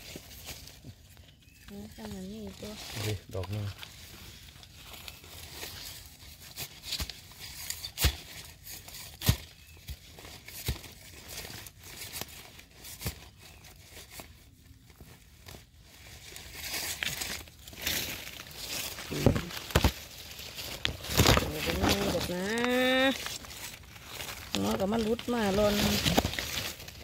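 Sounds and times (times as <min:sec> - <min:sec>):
leaf litter rustling and tearing: 0:00.0 - 0:27.0.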